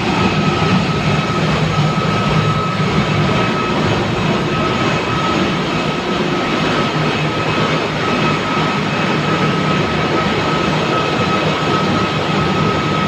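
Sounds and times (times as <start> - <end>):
engine room machinery drone: 0.0 - 13.0
high machinery whine: 0.0 - 13.0.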